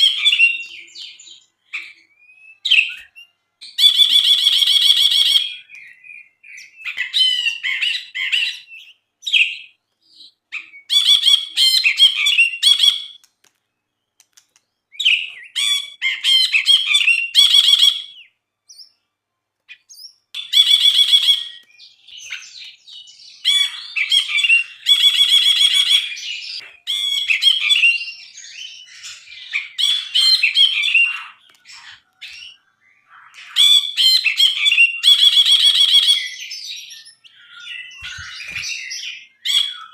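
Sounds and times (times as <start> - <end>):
bird chattering and whistling: 0.0 - 13.2, 14.3 - 19.0, 19.7 - 39.9.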